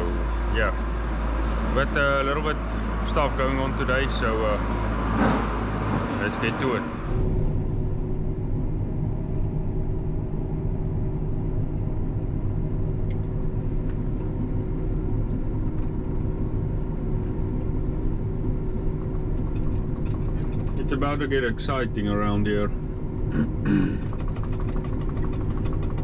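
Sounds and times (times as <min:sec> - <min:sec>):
vehicle engine running steadily: 0:00.0 - 0:26.0.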